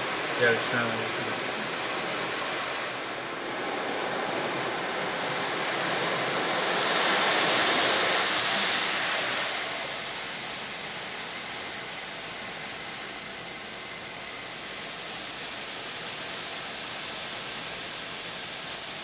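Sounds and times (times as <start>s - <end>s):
automatic car wash rushing: 0.0s - 19.0s.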